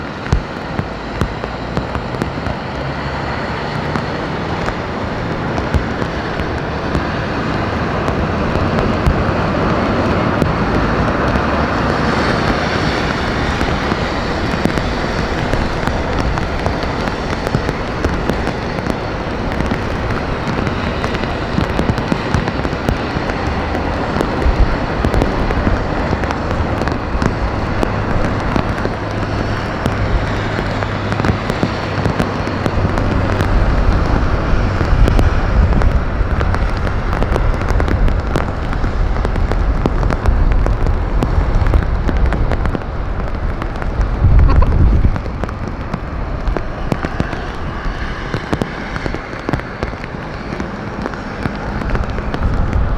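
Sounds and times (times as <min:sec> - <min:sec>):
deep rumble: 0:00.0 - 0:52.9
heavy rain hissing: 0:00.0 - 0:52.9
raindrops crackling on microphone: 0:00.0 - 0:52.9.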